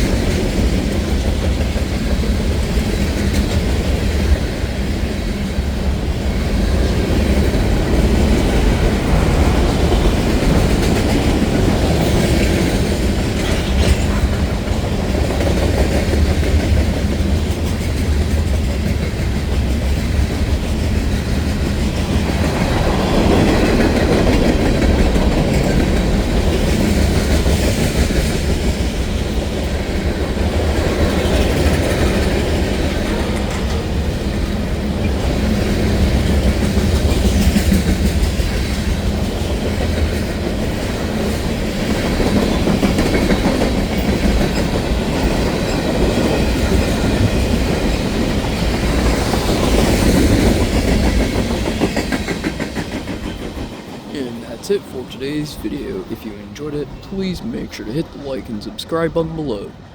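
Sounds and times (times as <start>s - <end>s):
train wheels rumbling on rails: 0.0s - 56.1s.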